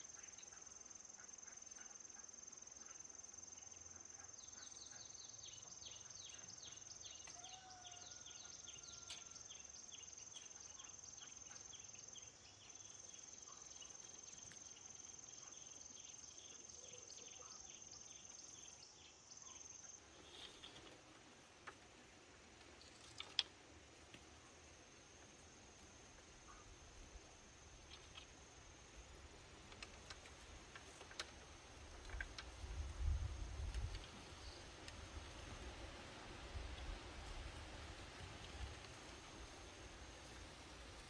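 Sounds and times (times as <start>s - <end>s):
insects trilling: 0.0s - 36.2s.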